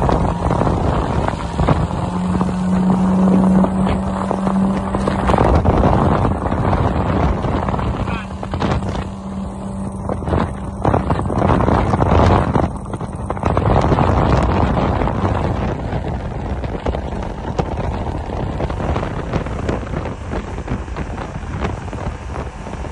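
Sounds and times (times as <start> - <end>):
hull thumps and splashes: 0.0 - 22.9
outboard engine hum: 0.0 - 22.9
wind buffeting microphone: 0.0 - 22.9.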